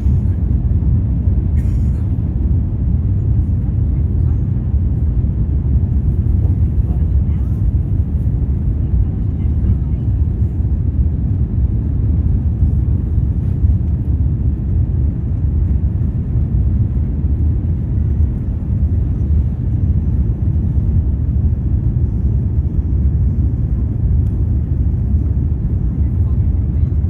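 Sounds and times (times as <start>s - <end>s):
jet engine rumble in cabin: 0.0s - 27.0s.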